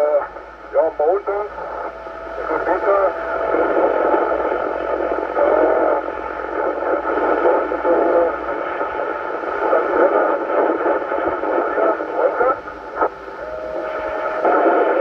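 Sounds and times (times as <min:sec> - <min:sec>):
hissy radio signal: 0:00.0 - 0:15.0.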